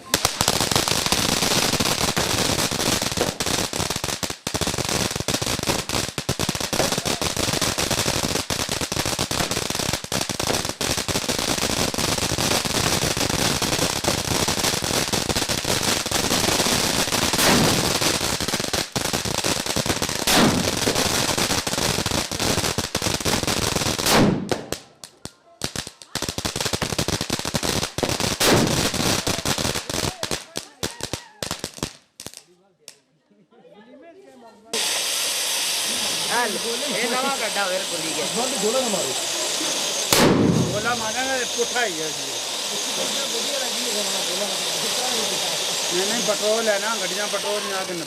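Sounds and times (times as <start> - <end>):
loud firecracker bangs: 0.0 - 24.9, 26.2 - 31.3, 34.8 - 48.0
firecrackers crackling: 0.0 - 33.0, 34.7 - 48.0.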